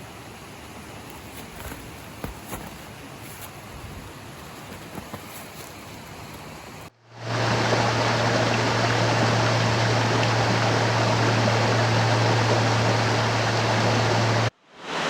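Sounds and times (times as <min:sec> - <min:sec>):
steady low hum: 0:00.0 - 0:14.5
stream rushing over rocks: 0:00.0 - 0:15.0.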